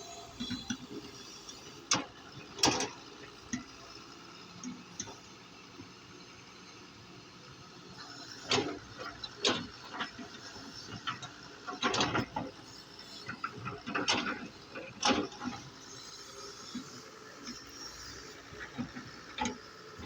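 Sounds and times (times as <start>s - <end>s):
excavator working: 0.0s - 20.0s.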